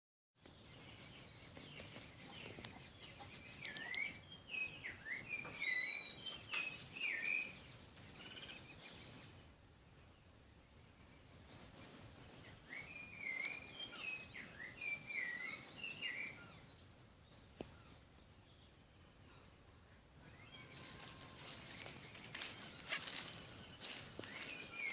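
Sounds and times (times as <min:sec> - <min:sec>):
faint outdoor background noise: 0:00.4 - 0:24.9
songbird warbling chirps: 0:00.4 - 0:24.9.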